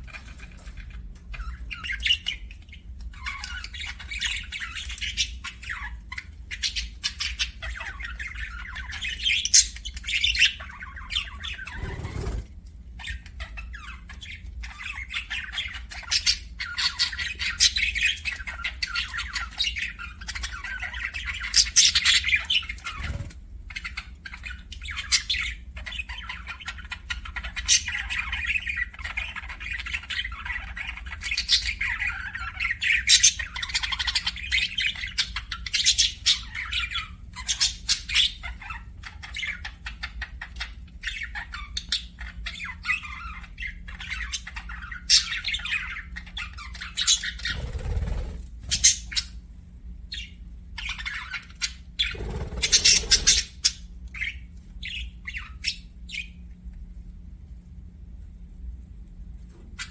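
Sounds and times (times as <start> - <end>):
budgerigars chattering and chirping: 0.0 - 56.4.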